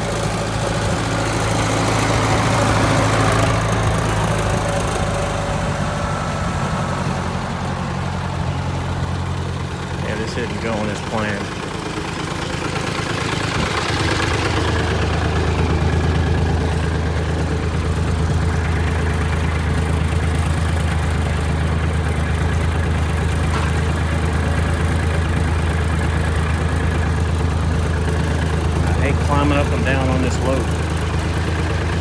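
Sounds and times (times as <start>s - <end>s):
sawmill engine running: 0.0s - 32.0s.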